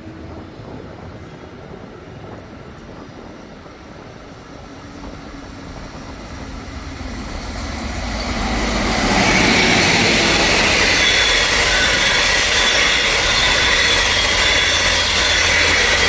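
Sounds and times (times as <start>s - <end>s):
diesel train passing at speed: 0.0s - 16.0s.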